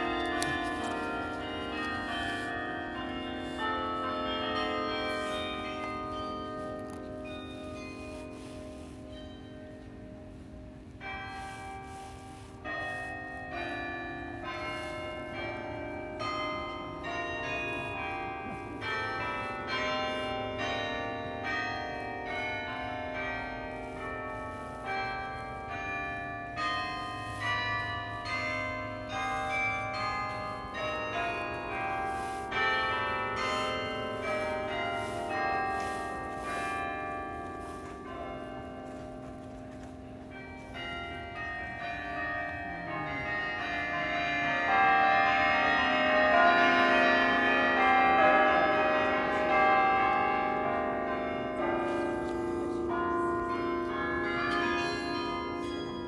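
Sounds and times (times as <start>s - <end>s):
carillon bells playing a melody: 0.0s - 56.0s.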